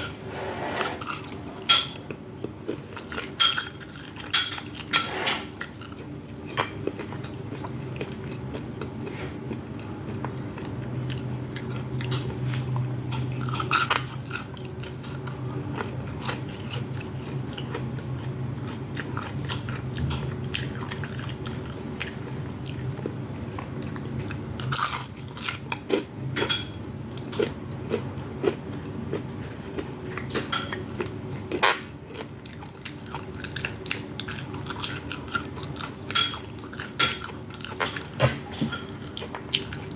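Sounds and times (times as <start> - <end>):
person chewing food: 0.8 - 39.9.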